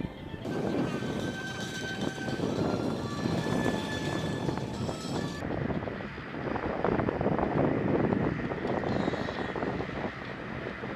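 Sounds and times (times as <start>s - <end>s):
turboprop engines rumbling: 0.0s - 10.9s
wind noise on microphone: 0.0s - 10.9s.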